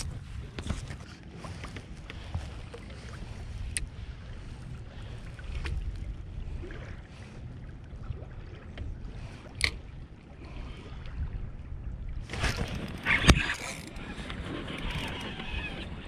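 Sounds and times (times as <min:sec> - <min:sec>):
water lapping against kayak hull: 0:00.0 - 0:16.0
wind buffeting microphone: 0:00.0 - 0:16.0.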